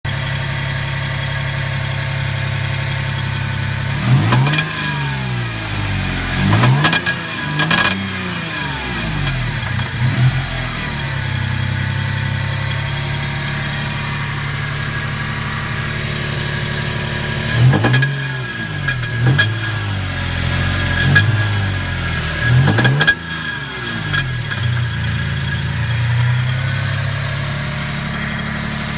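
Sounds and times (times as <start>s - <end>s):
car engine idling and revving: 0.1s - 28.9s.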